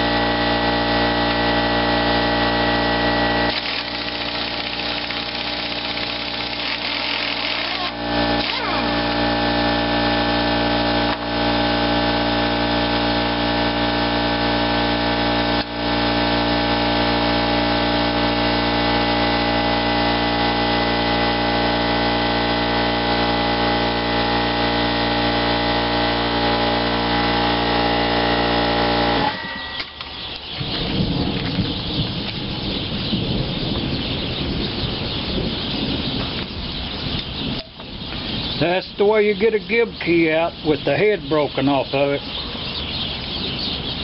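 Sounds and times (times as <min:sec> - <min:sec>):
steady machine hum: 0:00.0 - 0:44.0.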